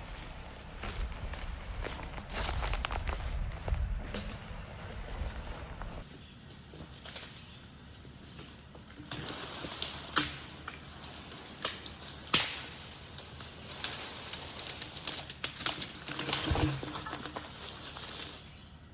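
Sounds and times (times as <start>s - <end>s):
log dragged through underbrush: 0.0s - 18.7s
dry brush and twigs snapping: 0.8s - 18.6s.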